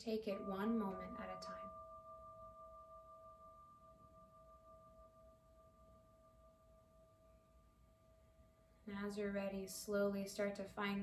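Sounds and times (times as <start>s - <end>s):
meditation bell ringing: 0.0s - 8.9s.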